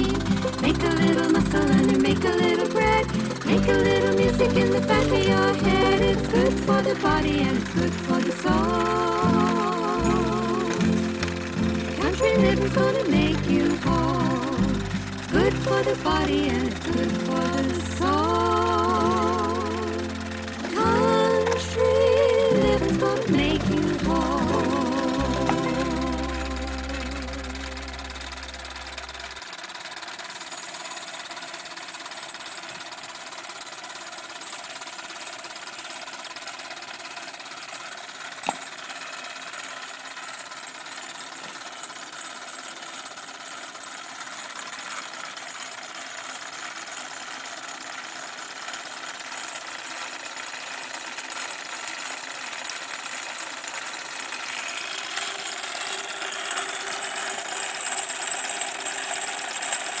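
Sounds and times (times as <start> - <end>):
steam engine driving grain mill: 0.0 - 60.0.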